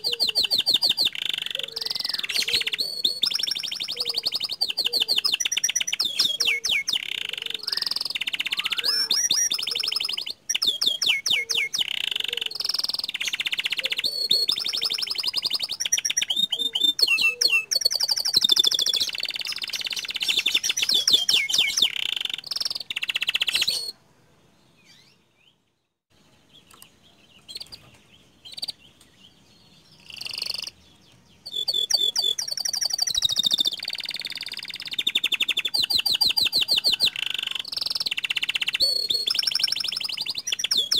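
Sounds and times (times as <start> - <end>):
canary singing trills: 0.0 - 24.0, 24.6 - 40.9.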